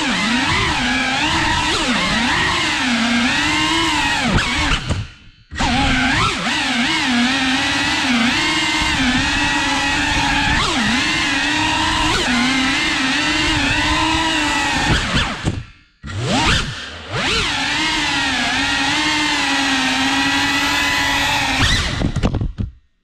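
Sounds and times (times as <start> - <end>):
quadcopter motors whining: 0.0 - 22.3.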